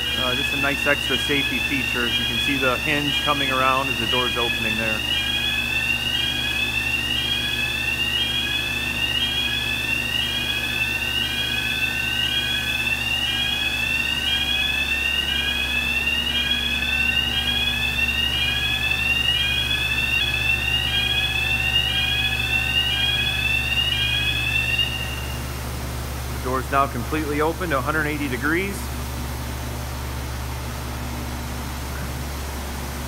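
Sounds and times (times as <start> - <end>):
whooping warning alarm: 0.0 - 31.3.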